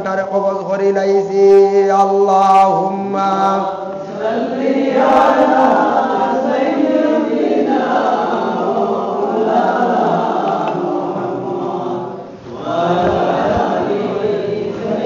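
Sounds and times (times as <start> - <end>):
voices chanting prayer in unison: 0.0 - 15.0.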